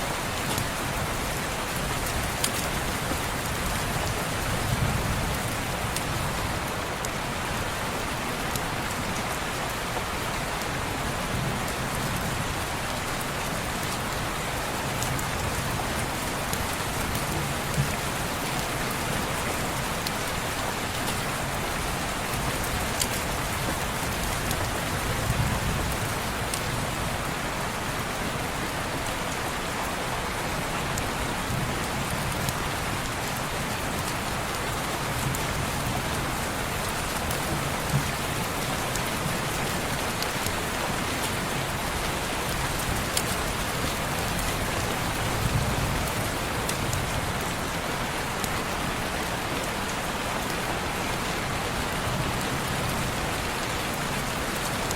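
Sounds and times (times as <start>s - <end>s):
rain on window glass: 0.0s - 28.4s, 30.5s - 54.9s.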